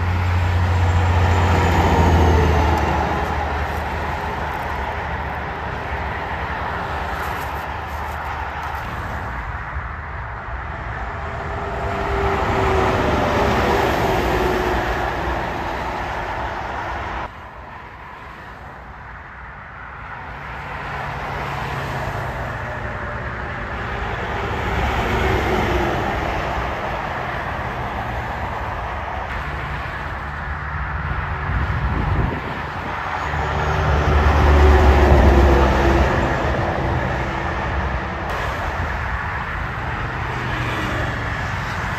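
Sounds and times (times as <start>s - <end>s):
trucks passing on highway: 0.0s - 41.9s.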